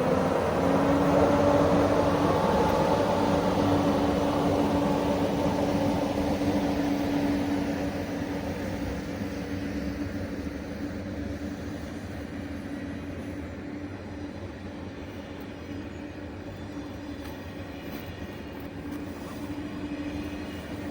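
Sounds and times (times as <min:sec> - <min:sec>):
train rumbling: 0:00.0 - 0:20.9.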